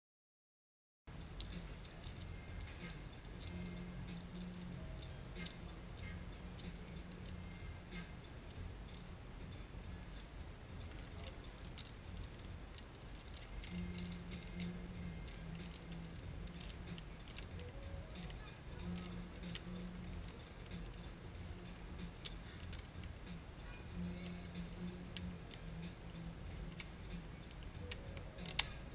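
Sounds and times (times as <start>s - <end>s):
low steady hum: 1.1s - 28.9s
small metal clicks and rattles: 1.2s - 9.2s, 9.9s - 28.9s.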